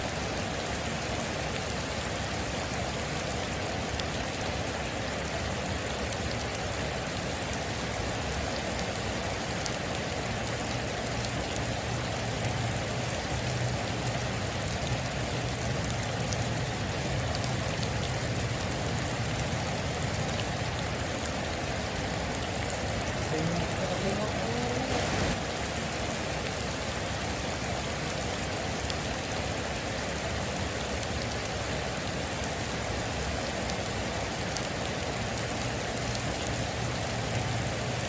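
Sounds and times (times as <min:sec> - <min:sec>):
heavy rain on a metal roof: 0:00.0 - 0:38.0
sharp ticks of raindrops: 0:00.0 - 0:38.0.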